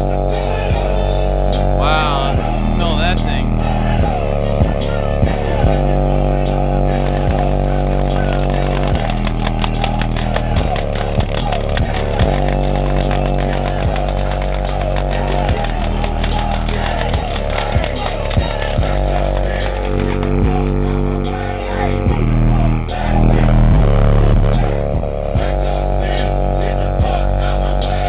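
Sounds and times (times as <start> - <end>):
distorted subwoofer bass drone: 0.0 - 28.0.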